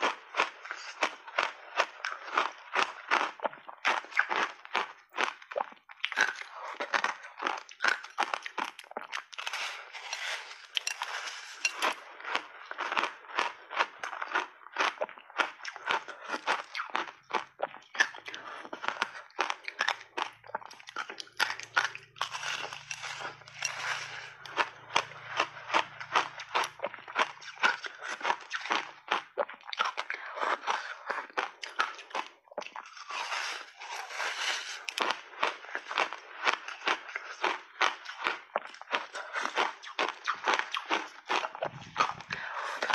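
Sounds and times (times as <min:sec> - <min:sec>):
ice crunching while chewed: 0:00.0 - 0:42.9.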